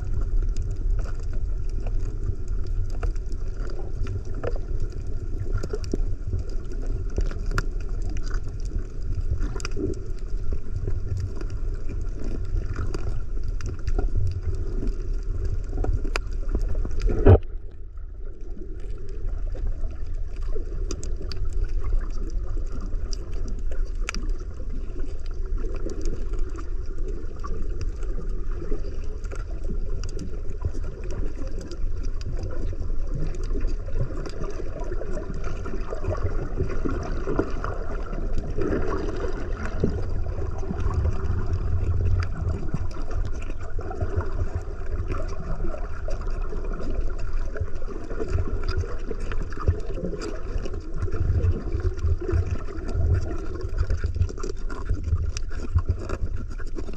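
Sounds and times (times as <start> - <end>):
faint underwater crackles: 0.0 - 56.9
muffled underwater rumble: 0.0 - 56.9.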